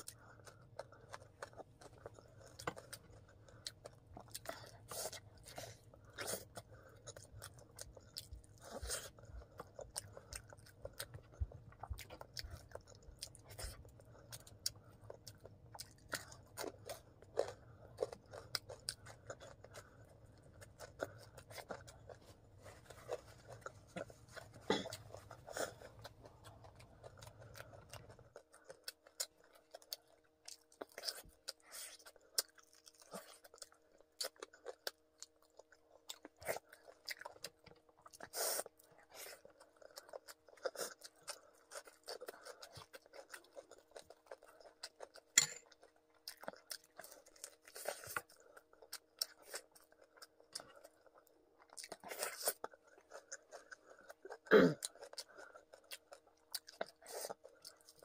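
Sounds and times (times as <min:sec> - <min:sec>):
chewing and crunching fried food: 0:00.0 - 0:58.0
faint steady hum: 0:00.0 - 0:58.0.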